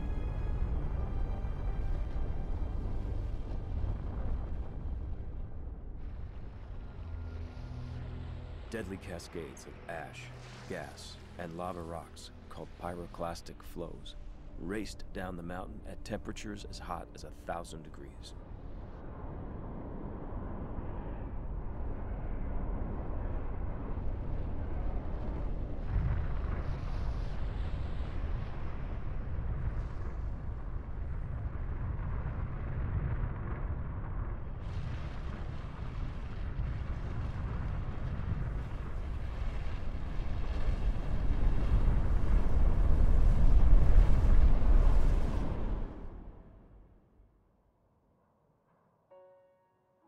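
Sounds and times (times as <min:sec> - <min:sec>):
deep rumble of volcanic eruption: 0:00.0 - 0:47.1.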